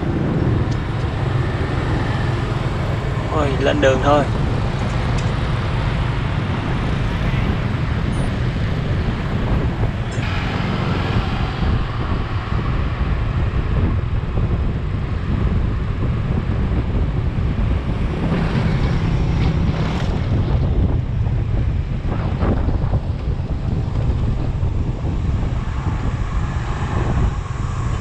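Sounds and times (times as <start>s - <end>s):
road and traffic noise: 0.0s - 28.0s
wind buffeting microphone: 0.0s - 28.0s.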